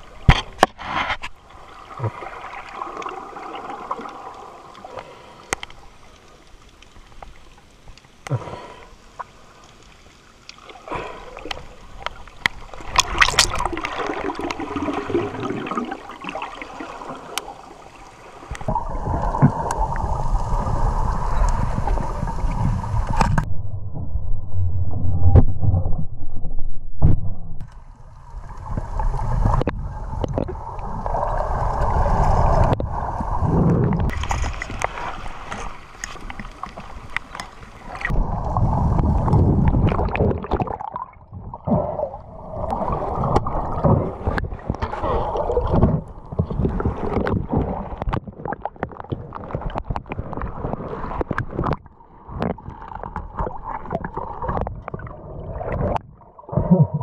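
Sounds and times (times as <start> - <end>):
water sloshing and splashing: 0.0 - 23.5, 27.0 - 57.0.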